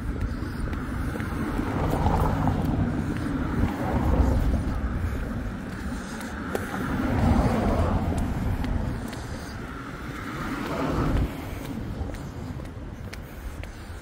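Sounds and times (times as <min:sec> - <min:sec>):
heels clicking on brick paving: 0:00.0 - 0:14.0
road traffic rumble: 0:00.0 - 0:14.0.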